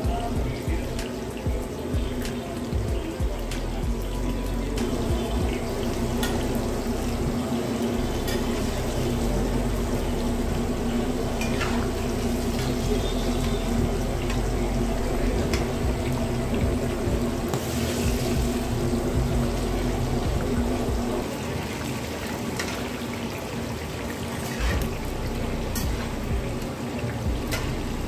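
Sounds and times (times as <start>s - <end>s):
steady low hum: 0.0s - 21.3s, 24.6s - 28.0s
hot oil bubbling and sizzling: 0.0s - 28.0s.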